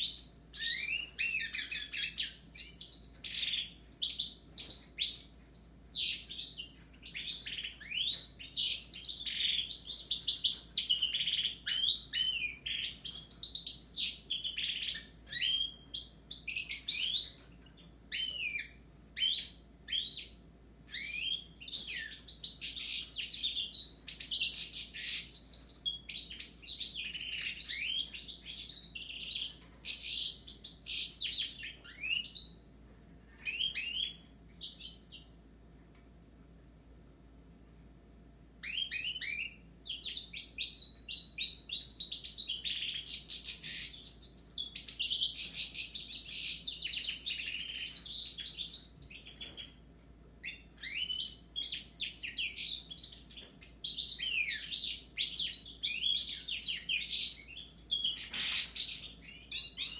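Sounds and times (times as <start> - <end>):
finches and canaries singing: 0.0 - 32.6, 33.4 - 35.4, 38.6 - 59.9.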